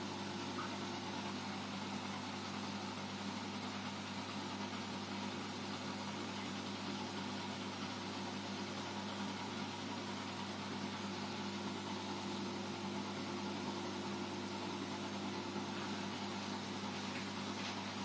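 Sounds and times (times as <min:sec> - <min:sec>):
aquarium pump hiss: 0:00.0 - 0:18.0
steady electrical hum: 0:00.0 - 0:18.0.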